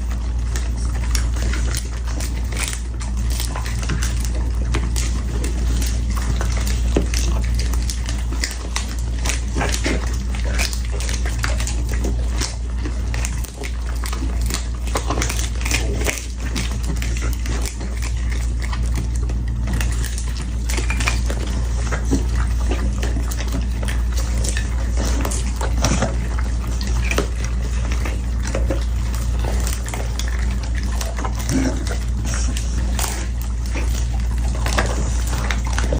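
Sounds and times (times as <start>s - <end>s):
dog chewing and lapping: 0.0s - 35.9s.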